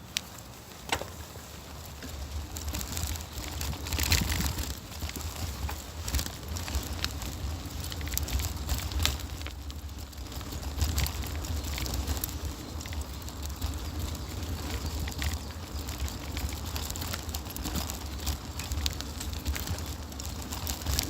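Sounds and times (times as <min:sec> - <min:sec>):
bicycle clicks and rattles: 0:00.0 - 0:21.0
wind rumble on microphone: 0:01.7 - 0:21.0.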